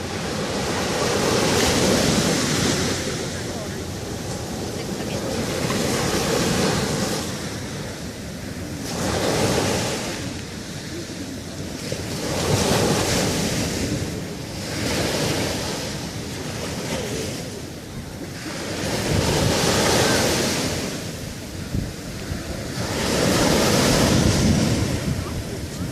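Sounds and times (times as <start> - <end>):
sea waves breaking on beach: 0.0 - 25.9
wind rumbling on microphone: 0.0 - 25.9.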